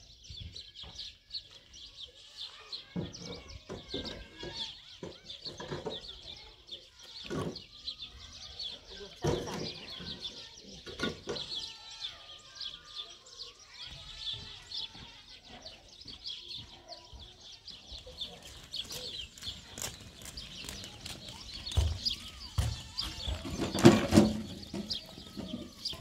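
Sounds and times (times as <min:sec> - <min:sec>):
birds chirping and twittering: 0:00.0 - 0:26.0.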